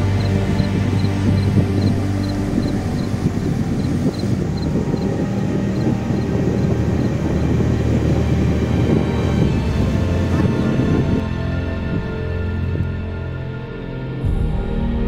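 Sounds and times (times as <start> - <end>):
low droning pad music: 0.0 - 15.0.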